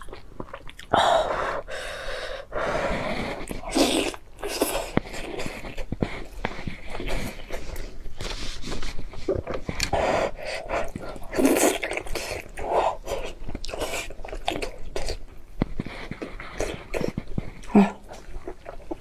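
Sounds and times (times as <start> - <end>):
person chewing: 0.0 - 1.7, 2.9 - 19.0.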